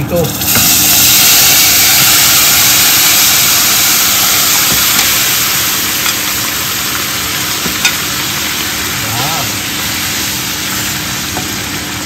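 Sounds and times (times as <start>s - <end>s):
liquid hissing and bubbling in pot: 0.0s - 12.0s
range hood fan drone: 0.0s - 12.0s.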